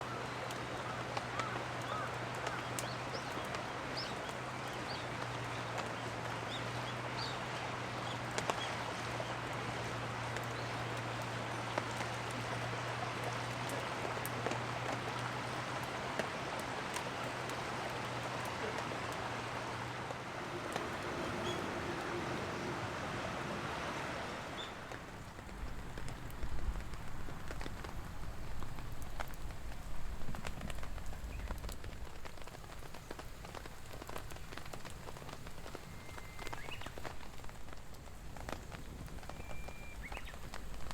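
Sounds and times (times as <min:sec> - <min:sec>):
raindrops ticking close by: 0:00.0 - 0:40.9
steady rain falling: 0:00.0 - 0:40.9.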